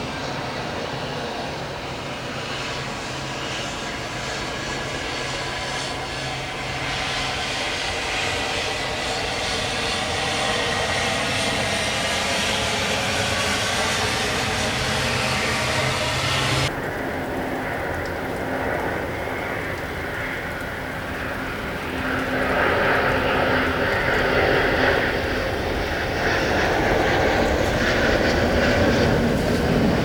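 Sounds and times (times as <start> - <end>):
airliner engines running: 0.0 - 30.0.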